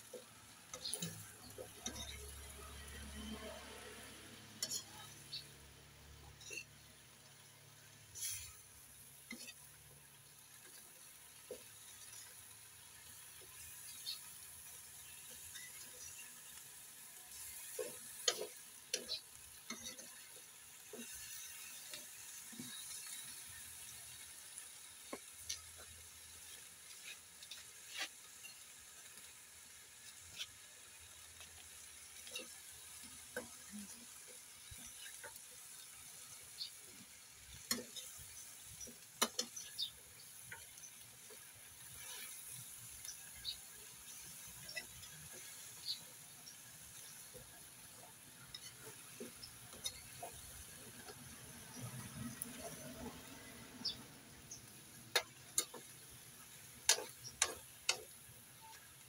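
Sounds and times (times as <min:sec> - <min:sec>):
food sizzling in a wok: 0:00.0 - 0:59.0
metal spoon scraping a pan: 0:00.1 - 0:05.5, 0:06.2 - 0:07.0, 0:08.0 - 0:09.8, 0:17.2 - 0:28.7, 0:30.1 - 0:58.8.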